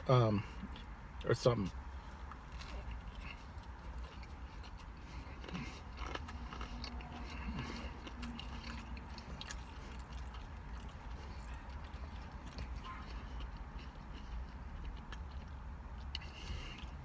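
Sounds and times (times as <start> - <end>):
chewing with wet mouth clicks: 2.2 - 17.0.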